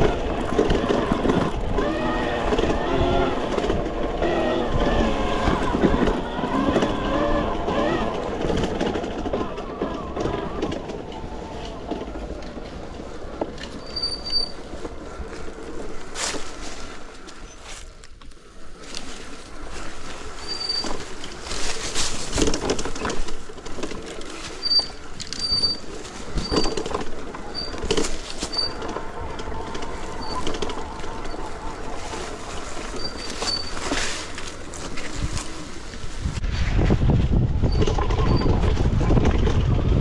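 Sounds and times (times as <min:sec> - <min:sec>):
electric bike riding off road: 0:00.0 - 0:40.0.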